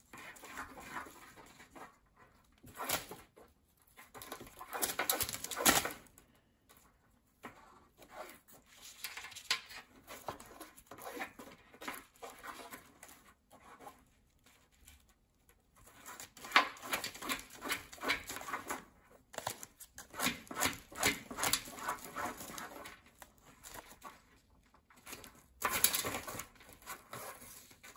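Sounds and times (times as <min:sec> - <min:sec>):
parrot scratching through seeds: 0:00.0 - 0:06.1, 0:06.7 - 0:27.9
crinkling paper: 0:00.1 - 0:27.9.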